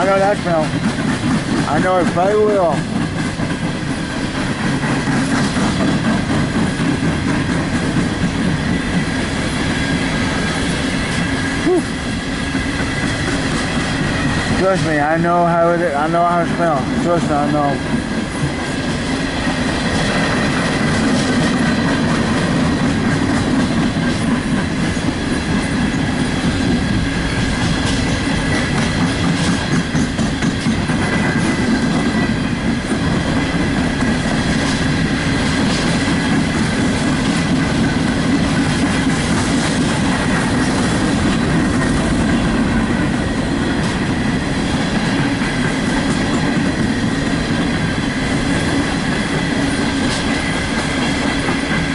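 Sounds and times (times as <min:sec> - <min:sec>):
train wheels rumbling and clattering: 0:00.0 - 0:51.9.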